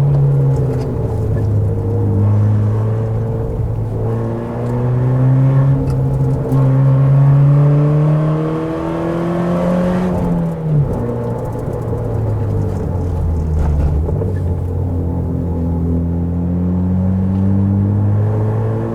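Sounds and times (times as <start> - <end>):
car engine revving under load: 0.0 - 18.9.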